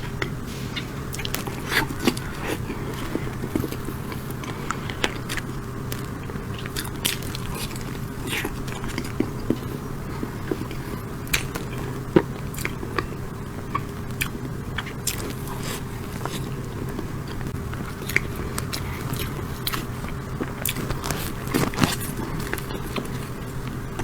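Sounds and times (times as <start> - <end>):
steady low hum: 0.0 - 24.0
chewing and biting: 0.8 - 24.0.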